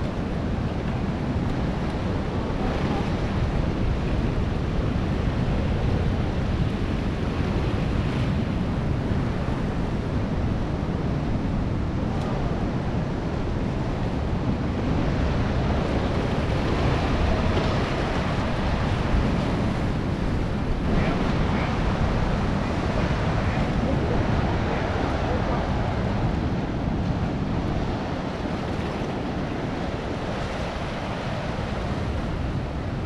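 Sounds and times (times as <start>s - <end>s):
rough surf: 0.0s - 33.0s
wind buffeting microphone: 0.0s - 33.0s.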